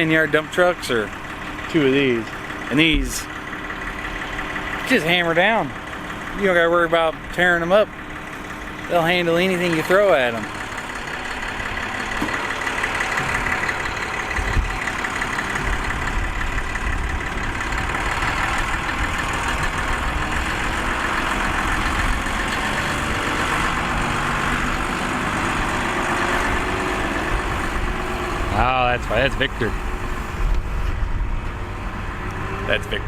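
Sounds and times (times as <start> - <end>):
heavy diesel engines rumbling: 0.0 - 33.0.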